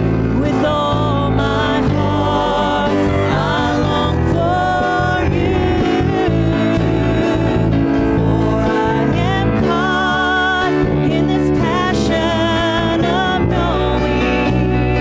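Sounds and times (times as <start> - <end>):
drums: 0.0 - 15.0
guitar: 0.0 - 15.0
keyboard: 0.0 - 15.0
voices singing: 0.0 - 15.0.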